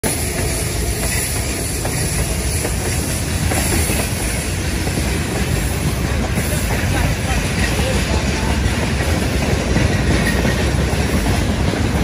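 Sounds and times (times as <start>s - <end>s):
freight train passing: 0.0s - 12.0s
wheels rumbling on rails: 0.0s - 12.0s
clacks at rail joints: 0.1s - 12.0s.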